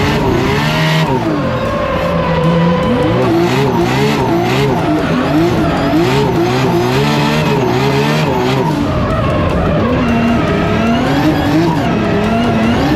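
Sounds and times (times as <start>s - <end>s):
car engine revving: 0.0s - 12.9s
tyres squealing: 0.0s - 12.9s.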